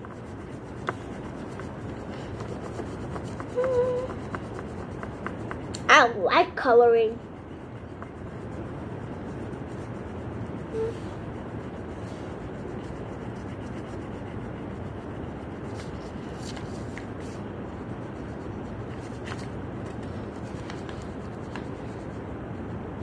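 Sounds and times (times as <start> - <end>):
crayon scratching on paper: 0.0 - 22.2
low background hum: 0.0 - 23.0.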